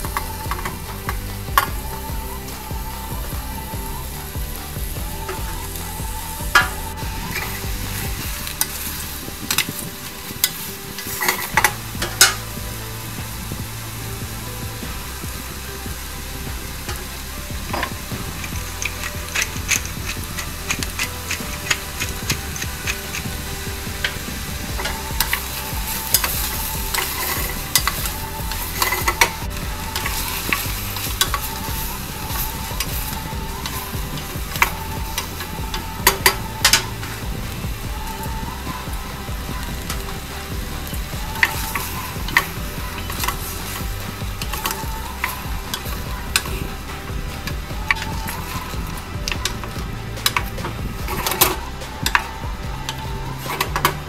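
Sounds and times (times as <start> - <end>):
vegetables sizzling in oil: 0.0 - 54.0
wooden spoon stirring: 0.0 - 54.0.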